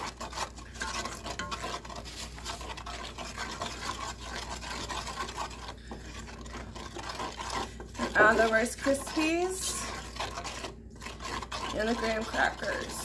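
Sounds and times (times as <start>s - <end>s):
spoon scraping sticky mixture in pot: 0.0s - 13.0s.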